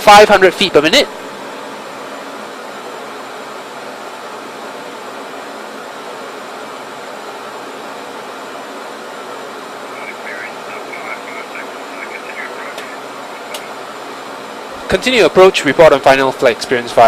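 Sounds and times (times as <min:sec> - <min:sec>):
airflow and engine hiss: 0:00.0 - 0:17.0
faint steady hum: 0:00.0 - 0:17.0.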